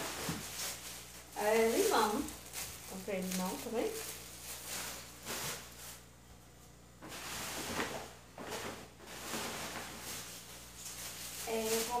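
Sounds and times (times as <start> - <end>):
plastic bags rustling: 0.0 - 6.2, 7.0 - 12.0.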